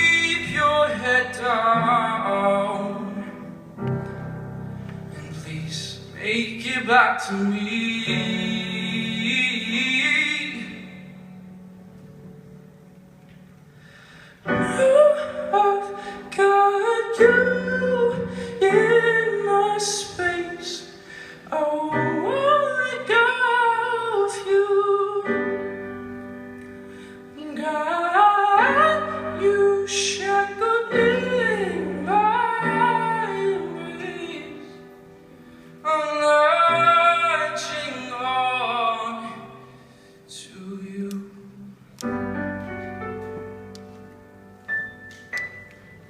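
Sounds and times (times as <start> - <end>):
sustained piano chords: 0.0 - 46.0.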